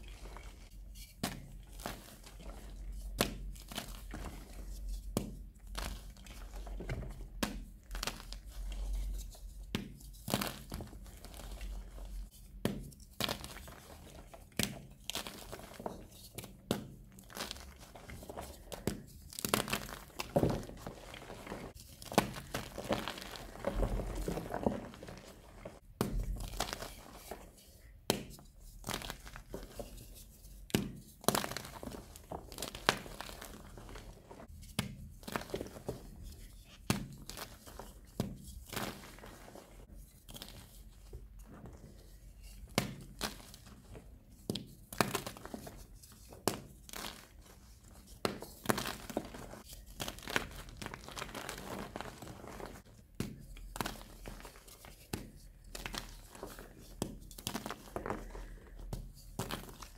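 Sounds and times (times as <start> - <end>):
powdery rustling: 10.2 - 59.9.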